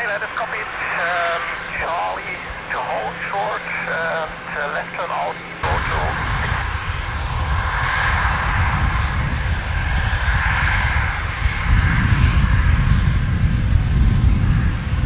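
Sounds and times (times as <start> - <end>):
aircraft engines rumbling: 0.0 - 15.0
engine whine: 0.0 - 15.0.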